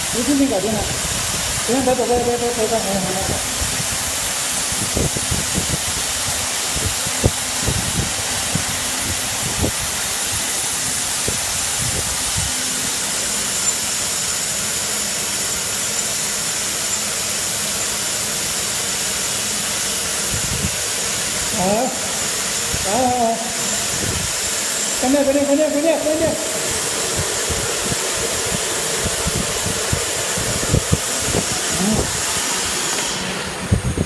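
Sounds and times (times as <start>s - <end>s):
washing machine hissing: 0.0s - 34.0s.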